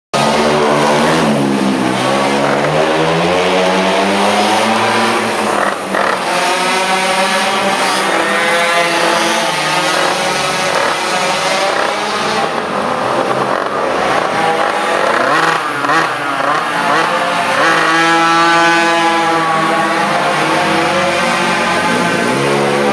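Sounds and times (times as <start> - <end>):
two-stroke engines revving: 0.2 - 22.9.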